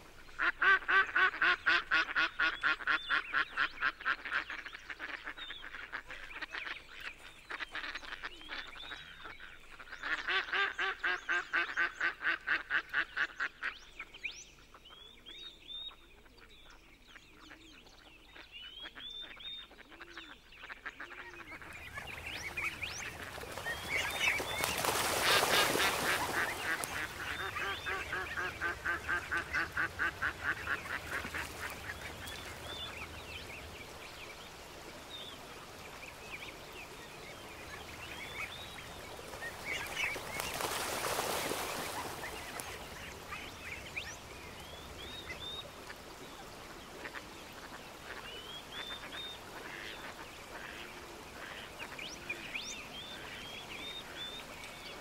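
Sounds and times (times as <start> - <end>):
ducks quacking: 0.4 - 13.8, 18.4 - 34.0, 37.5 - 54.4.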